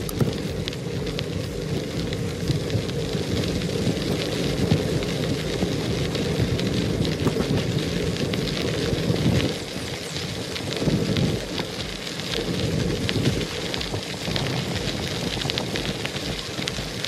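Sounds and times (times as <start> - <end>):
bicycle tyres crunching on gravel: 0.0 - 17.0
wind buffeting microphone: 0.0 - 17.0.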